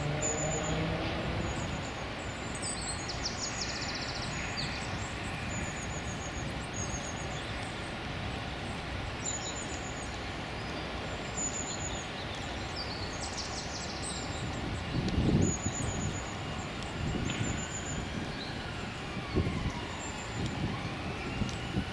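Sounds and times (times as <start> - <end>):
distant traffic rumble: 0.0 - 21.9
small birds calling: 0.2 - 20.2.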